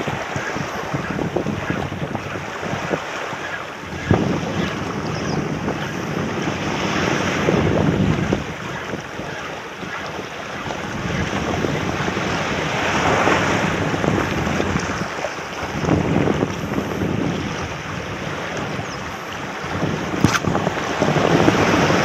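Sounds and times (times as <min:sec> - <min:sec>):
waves breaking over rocks: 0:00.0 - 0:22.0
wind buffeting microphone: 0:00.0 - 0:22.0.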